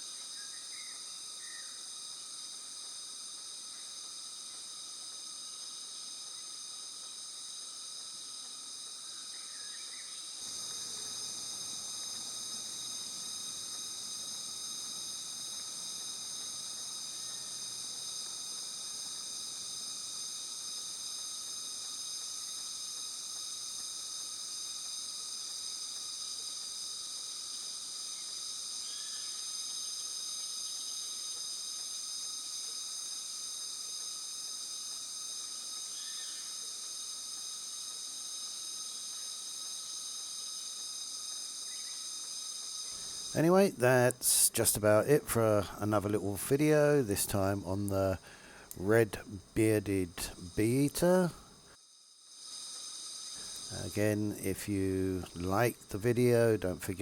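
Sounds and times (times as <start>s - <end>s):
shrill insect chorus: 0.0s - 57.0s.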